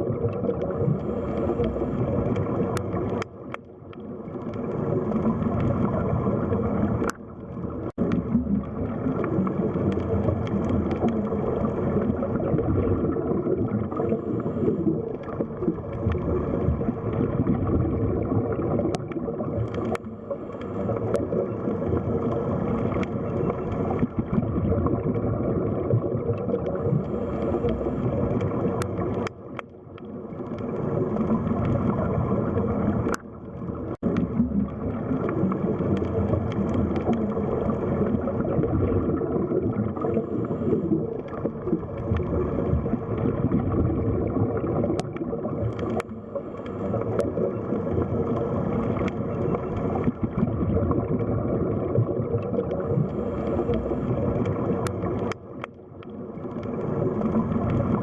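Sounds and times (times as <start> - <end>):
faint steady hum: 0.0 - 58.0
muffled underwater water rush: 0.0 - 58.0.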